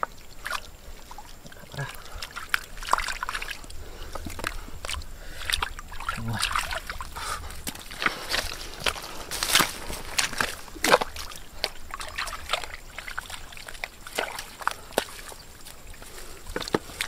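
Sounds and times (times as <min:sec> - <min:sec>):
hands splashing through wet mud: 0:00.0 - 0:17.0.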